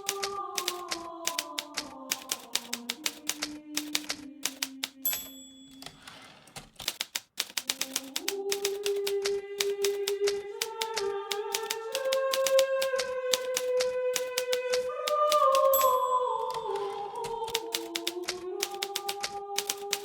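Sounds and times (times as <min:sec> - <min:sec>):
typewriter bell ring: 0:00.0 - 0:20.0
typewriter keys clacking: 0:00.0 - 0:20.0.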